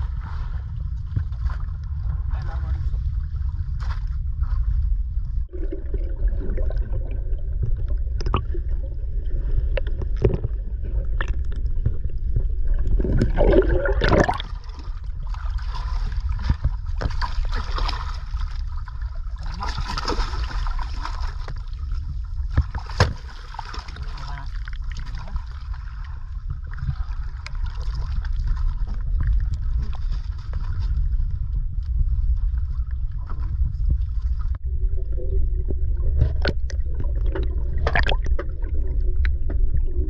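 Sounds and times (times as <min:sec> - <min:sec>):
low rumble: 0:00.0 - 0:40.0
water gurgling and sloshing: 0:00.0 - 0:40.0.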